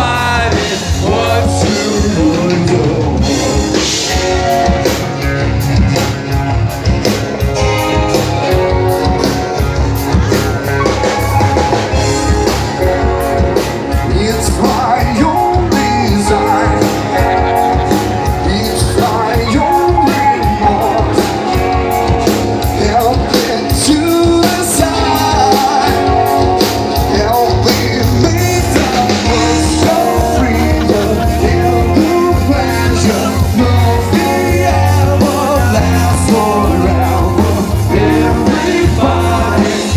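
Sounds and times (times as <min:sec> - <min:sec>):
person singing: 0:00.0 - 0:05.0, 0:10.1 - 0:39.9
rock band playing live: 0:00.0 - 0:39.9.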